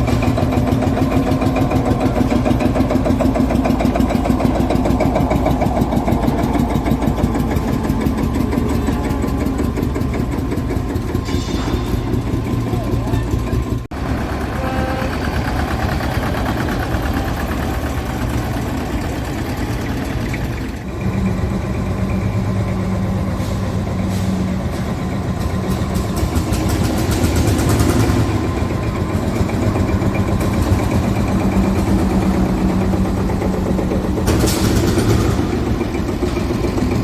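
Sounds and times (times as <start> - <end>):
tractor engines running: 0.0 - 37.0.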